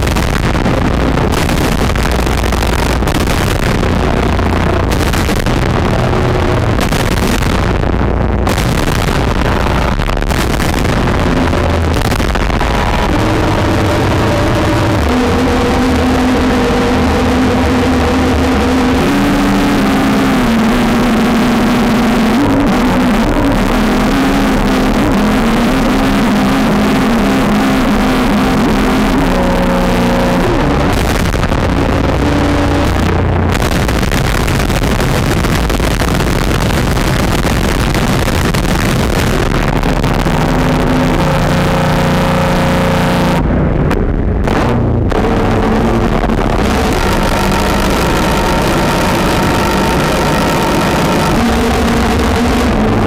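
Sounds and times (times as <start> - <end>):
distorted electric guitar noise: 0.0 - 53.0
held droning pitches: 0.0 - 53.0.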